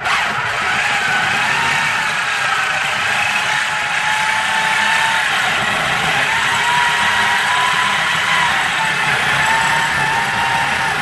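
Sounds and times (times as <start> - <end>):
power tool motor whine: 0.0 - 11.0.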